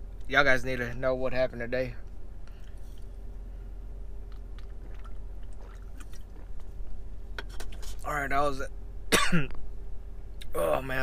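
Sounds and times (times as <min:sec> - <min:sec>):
low hum inside truck cab: 0:00.0 - 0:11.0.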